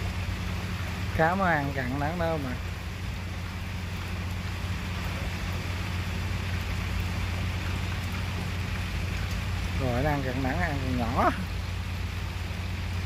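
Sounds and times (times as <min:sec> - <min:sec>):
rough water hissing: 0:00.0 - 0:13.0.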